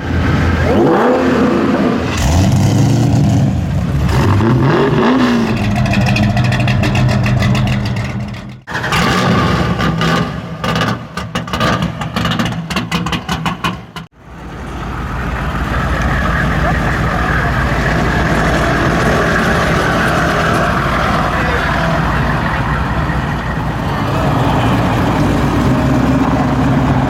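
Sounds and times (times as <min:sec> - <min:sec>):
car engine revving: 0:00.0 - 0:27.0
pulsing engine exhaust: 0:00.0 - 0:27.0.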